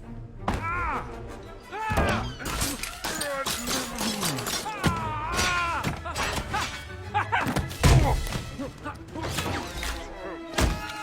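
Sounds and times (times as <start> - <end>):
film soundtrack music: 0.0 - 11.0.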